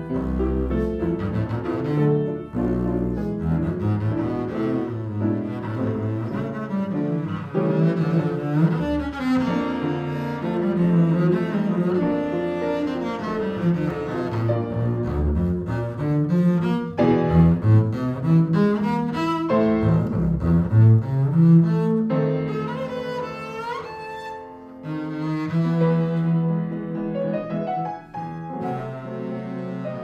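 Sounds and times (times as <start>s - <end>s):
bowed double bass: 0.0s - 30.0s
piano accompaniment: 0.0s - 30.0s.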